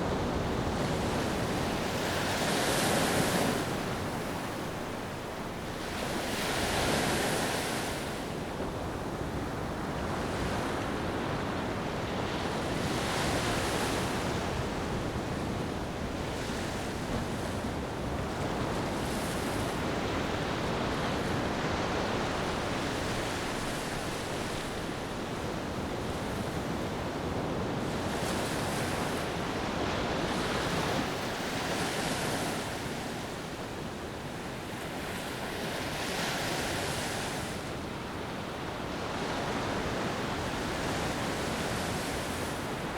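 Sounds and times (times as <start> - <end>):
ocean waves on a beach: 0.0 - 42.9.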